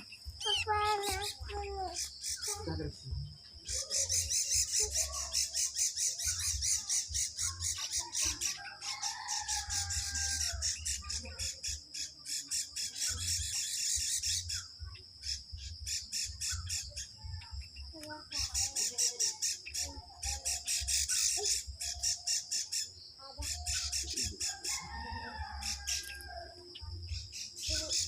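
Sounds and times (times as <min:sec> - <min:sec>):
birds chattering squawks: 0:00.0 - 0:28.0.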